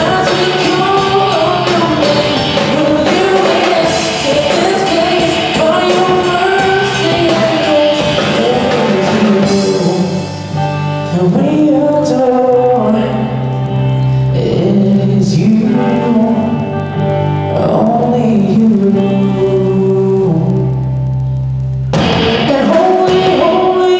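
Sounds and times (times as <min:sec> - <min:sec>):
man singing: 0:00.0 - 0:13.6, 0:14.2 - 0:21.0, 0:22.0 - 0:23.9
rock band guitars: 0:00.0 - 0:23.9.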